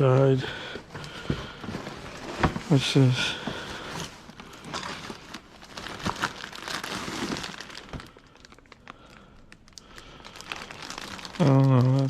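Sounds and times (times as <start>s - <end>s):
crinkling and rustling of item handled: 0.0s - 12.0s.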